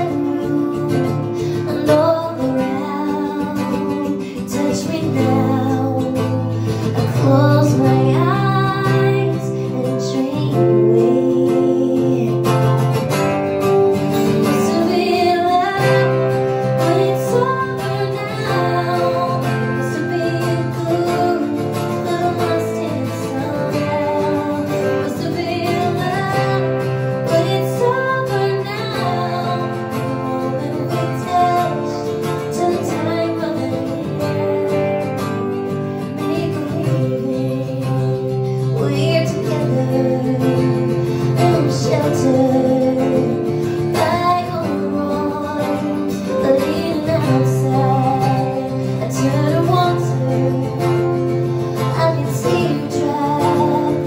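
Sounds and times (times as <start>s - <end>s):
acoustic guitars strumming: 0.0s - 54.0s
woman singing: 0.0s - 54.0s.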